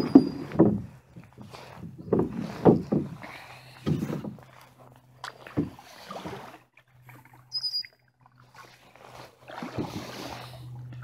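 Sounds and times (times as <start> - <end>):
water swishes: 0.0 - 11.0.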